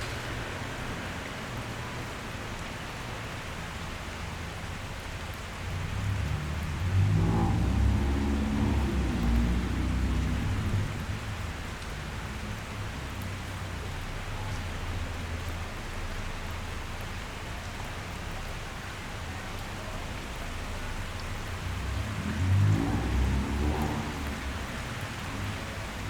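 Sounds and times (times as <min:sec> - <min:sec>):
rain against a window: 0:00.0 - 0:26.0.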